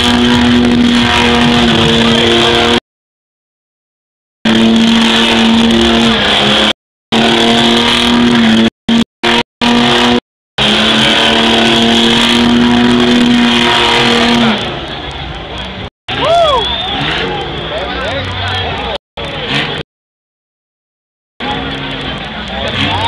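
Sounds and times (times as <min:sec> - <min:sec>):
car engine at high revs: 0:00.0 - 0:02.8, 0:04.5 - 0:15.9, 0:16.9 - 0:19.8, 0:21.4 - 0:23.0.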